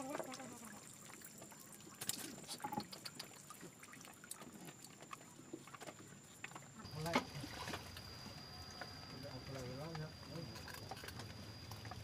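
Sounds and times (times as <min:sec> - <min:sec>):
faint trickling water: 0:00.0 - 0:12.0.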